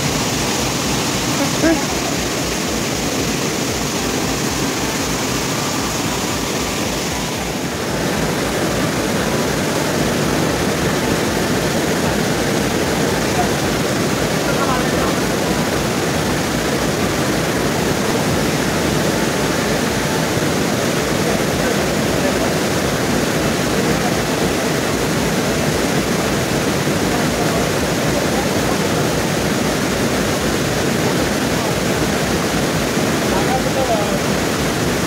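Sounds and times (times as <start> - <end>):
waterfall rushing over rocks: 0.0 - 35.0.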